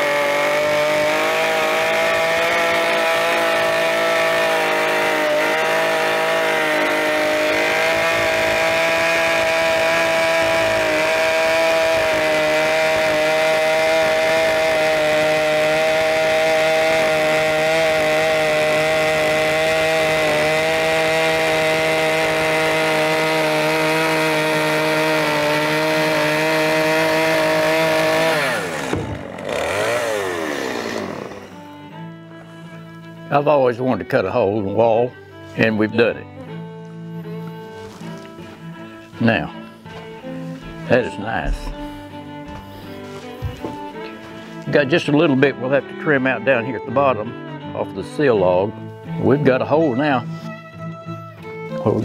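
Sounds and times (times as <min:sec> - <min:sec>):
chainsaw cutting logs: 0:00.0 - 0:50.7.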